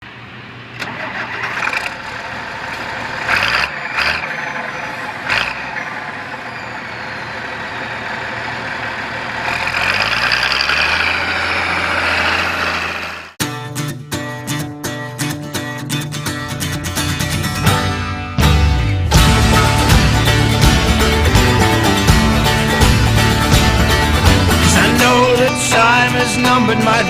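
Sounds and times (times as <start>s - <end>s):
farm machinery engine running: 0.0s - 13.4s, 16.6s - 27.0s.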